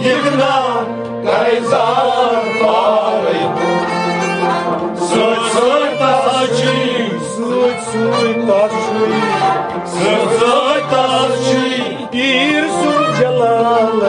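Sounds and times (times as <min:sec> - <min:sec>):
instrumental accompaniment: 0:00.0 - 0:14.0
man singing ornamented melody: 0:00.0 - 0:14.0.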